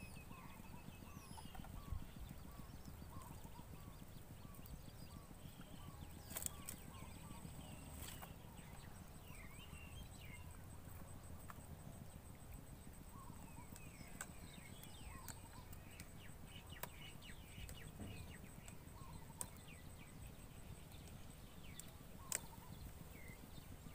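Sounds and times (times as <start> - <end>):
low steady rumble: 0.0 - 23.9
small birds chirping: 0.0 - 23.9.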